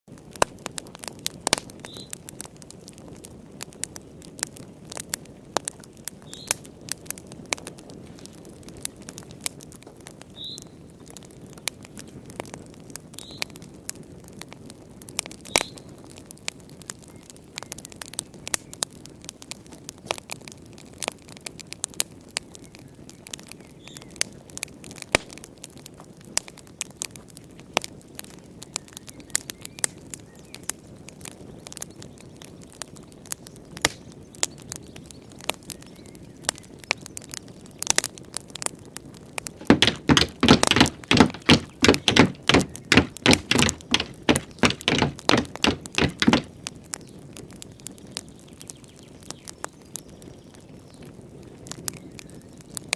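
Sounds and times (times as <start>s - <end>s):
wood fire crackling and popping: 0.1s - 52.9s.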